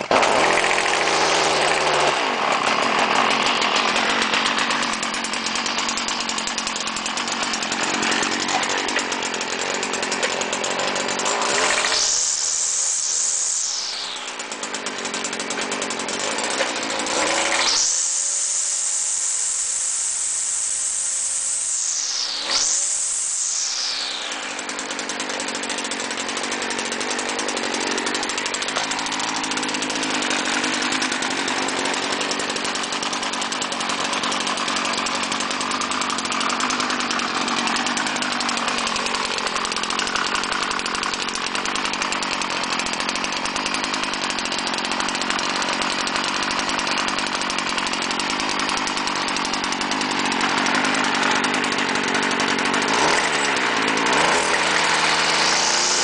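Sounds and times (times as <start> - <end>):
string trimmer engine running: 0.0 - 56.0.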